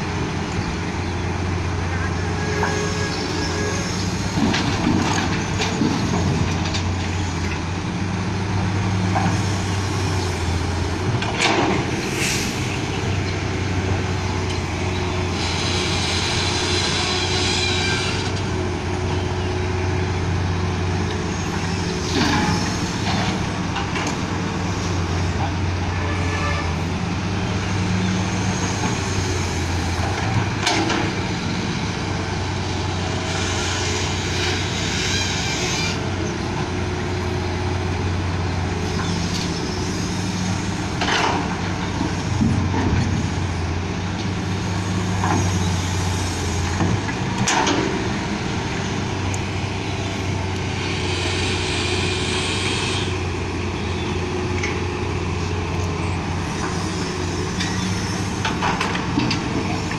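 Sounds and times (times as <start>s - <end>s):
dump truck idling: 0.0s - 59.9s
excavator diesel drone: 0.0s - 59.9s.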